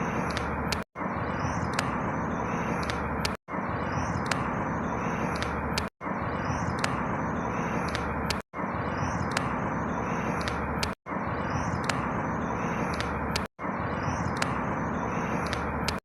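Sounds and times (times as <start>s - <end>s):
faint high bird chirps: 0.0s - 16.0s.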